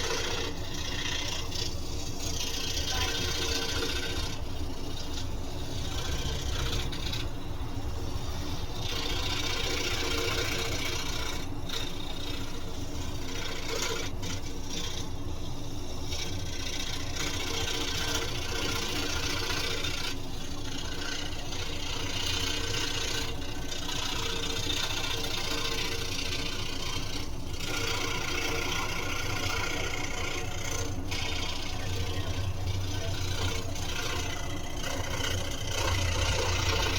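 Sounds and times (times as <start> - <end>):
blade rasping through wood: 0.0 - 36.9
scroll saw running: 0.0 - 36.9.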